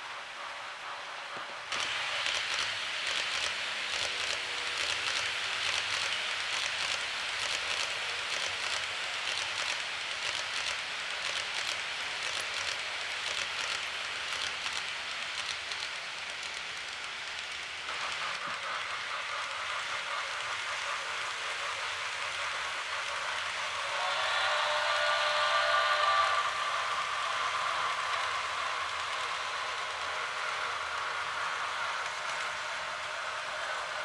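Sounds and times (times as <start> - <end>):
model train wheels clicking: 0.0 - 34.0
running noise hiss: 0.0 - 34.0.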